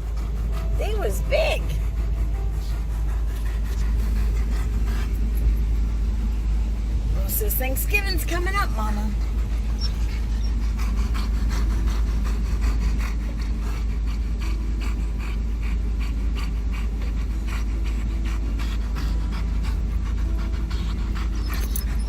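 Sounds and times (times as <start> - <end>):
dog panting: 0.0 - 22.0
road and engine rumble: 0.0 - 22.0.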